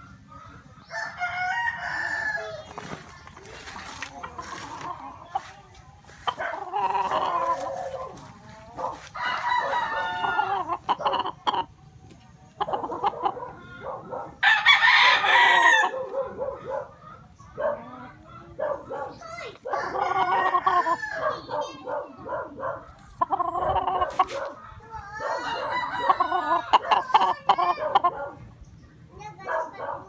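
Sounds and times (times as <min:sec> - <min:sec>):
roosters crowing: 0:00.0 - 0:05.5, 0:06.1 - 0:11.7, 0:12.6 - 0:28.4.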